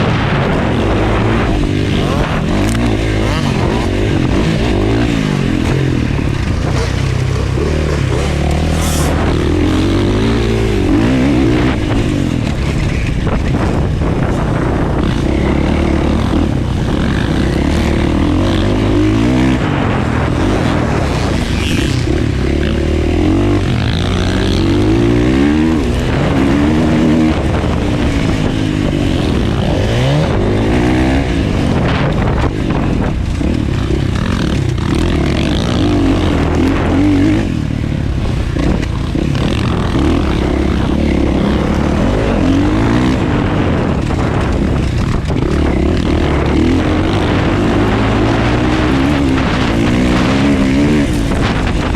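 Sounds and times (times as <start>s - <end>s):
motocross bike engine revving: 0.0s - 51.9s
rushing noise: 0.0s - 51.9s.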